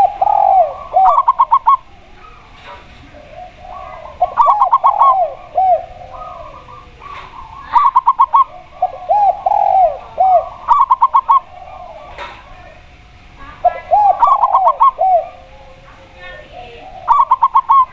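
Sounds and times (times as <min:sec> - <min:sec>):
dove cooing: 0:00.0 - 0:17.9.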